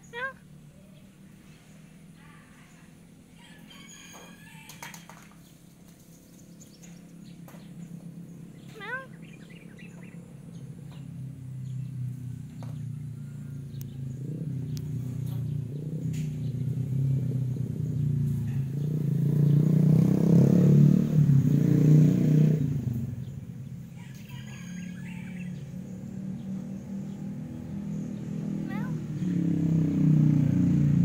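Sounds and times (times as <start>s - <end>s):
birds chirping: 0.0s - 20.6s, 21.4s - 31.0s
vehicle passing by: 0.0s - 31.0s.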